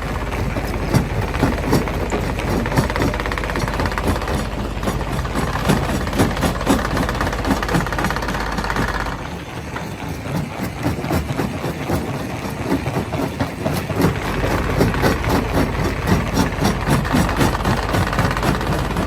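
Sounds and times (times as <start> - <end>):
engine drone: 0.0 - 19.0
stone crusher knocking and clatter: 0.1 - 19.0.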